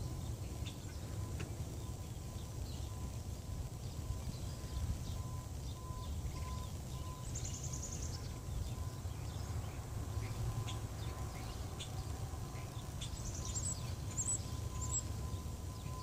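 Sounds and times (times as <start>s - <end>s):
bird trill: 0.0s - 16.0s
small birds chirping: 0.0s - 16.0s.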